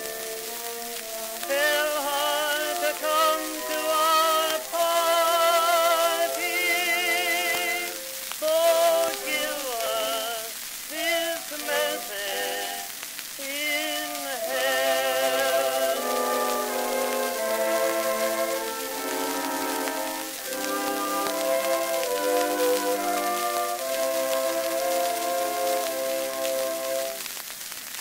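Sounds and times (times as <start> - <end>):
orchestra playing: 0.0 - 9.9, 14.1 - 27.3
tenor singing with vibrato: 0.0 - 27.3
record crackle and hiss: 0.0 - 28.0.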